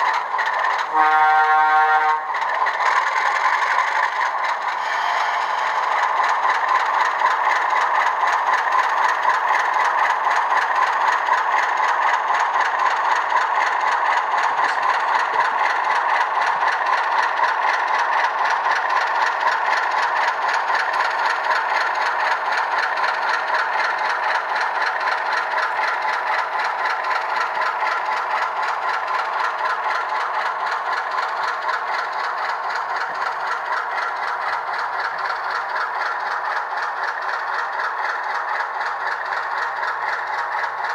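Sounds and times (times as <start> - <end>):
tinny diesel engine sound from speaker: 0.0 - 40.9.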